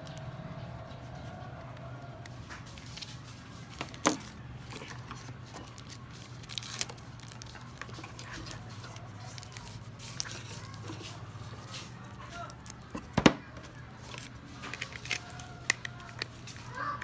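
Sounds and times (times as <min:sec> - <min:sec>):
plastic wrapper crinkling: 0:02.7 - 0:13.1, 0:13.7 - 0:17.0.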